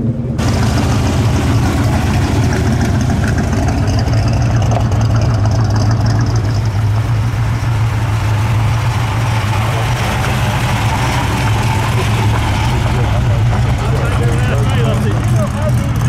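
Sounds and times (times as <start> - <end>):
car engines idling: 0.0 - 16.0.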